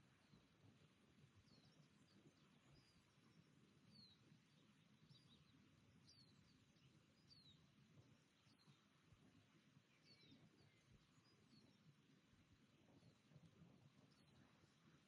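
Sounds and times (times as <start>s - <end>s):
faint bird chirps: 0.0s - 15.0s
outdoor background hiss: 0.0s - 15.0s.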